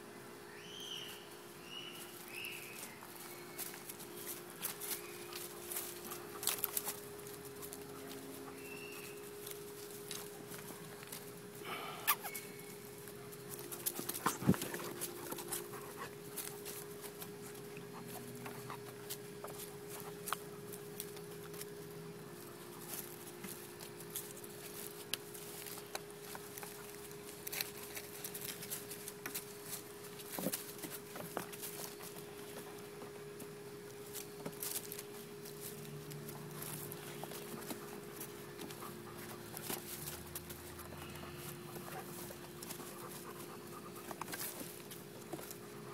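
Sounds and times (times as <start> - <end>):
puppies clicking and scuffling: 2.2 - 45.9.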